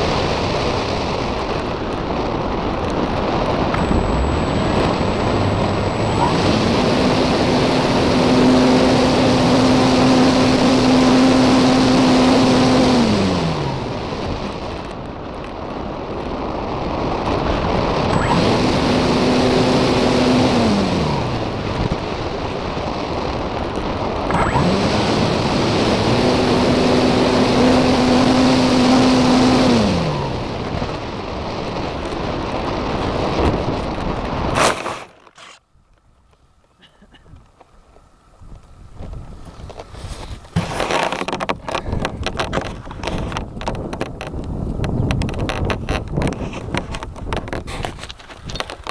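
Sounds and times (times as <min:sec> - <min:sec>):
wind rushing over microphone: 0:00.0 - 0:35.2, 0:38.2 - 0:48.9
electric motor and propeller whine: 0:00.0 - 0:36.7, 0:37.3 - 0:48.9.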